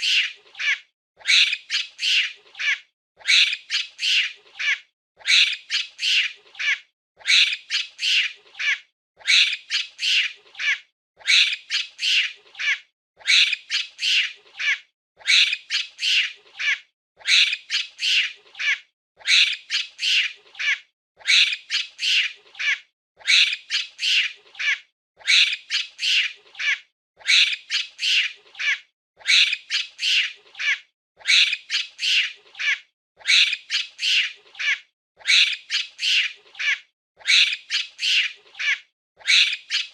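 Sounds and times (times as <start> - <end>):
monkey screeching: 0.0 - 39.9.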